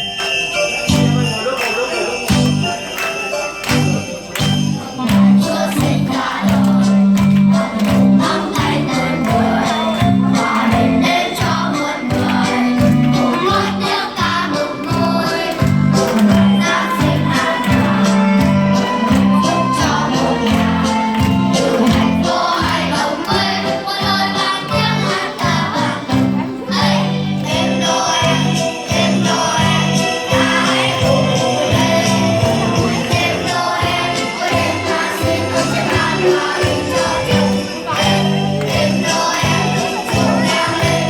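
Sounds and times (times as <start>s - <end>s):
christmas song: 0.0s - 41.0s
sleigh bells ringing: 0.0s - 41.0s.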